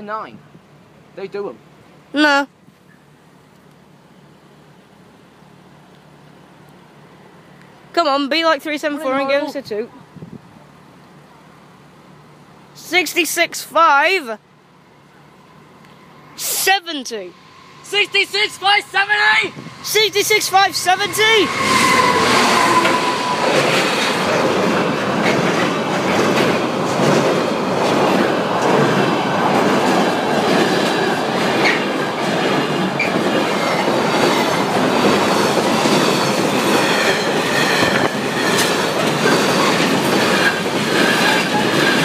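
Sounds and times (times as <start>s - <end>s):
freight train passing: 2.9s - 42.0s.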